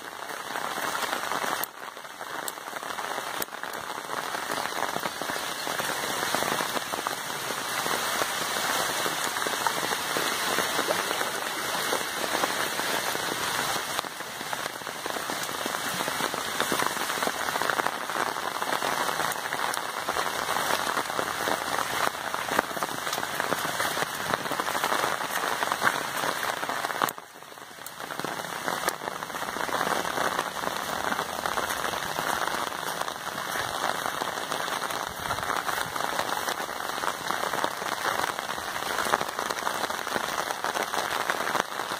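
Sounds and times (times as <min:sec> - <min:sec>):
steady rain on foliage and water: 0:00.0 - 0:41.9.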